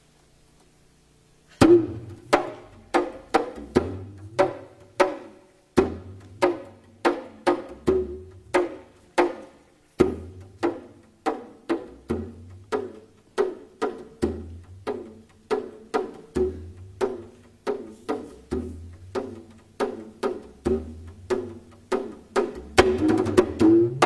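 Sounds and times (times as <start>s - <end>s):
woody struck percussion notes: 1.6s - 24.0s.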